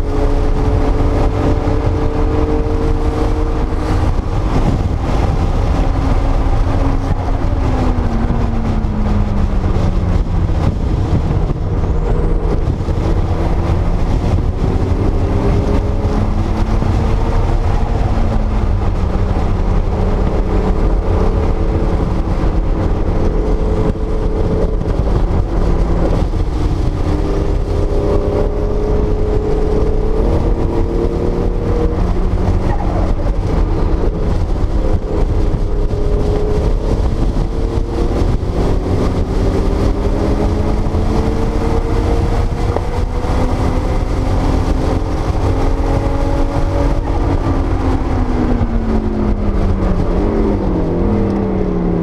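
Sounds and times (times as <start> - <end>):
car engine under power: 0.0 - 52.0
road and wind rumble: 0.0 - 52.0.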